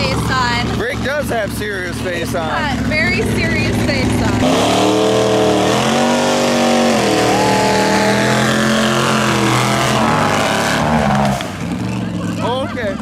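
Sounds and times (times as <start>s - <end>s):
tires spinning on asphalt: 0.0s - 13.0s
truck engine revving high: 0.0s - 13.0s.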